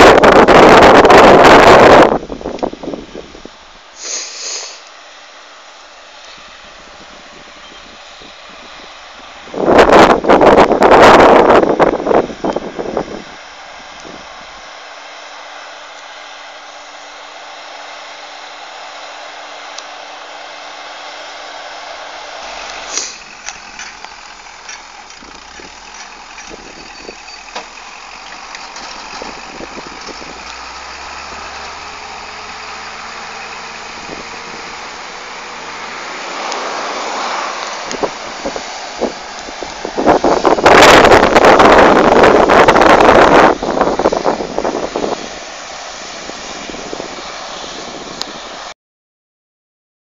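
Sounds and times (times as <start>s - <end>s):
tractor engine running: 0.0s - 48.8s.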